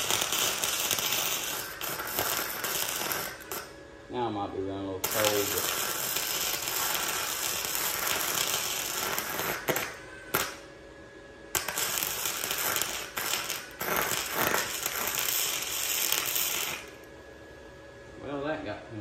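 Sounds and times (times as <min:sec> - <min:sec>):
arc welding crackle: 0:00.0 - 0:10.7, 0:11.5 - 0:17.1.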